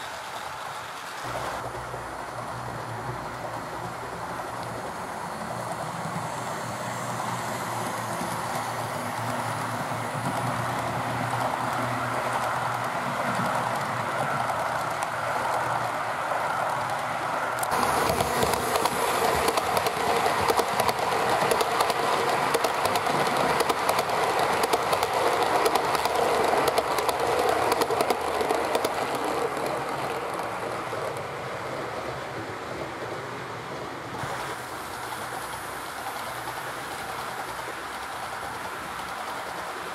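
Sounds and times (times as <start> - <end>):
model train running on track: 0.0 - 39.9
wheels clicking over rail joints: 0.0 - 39.9.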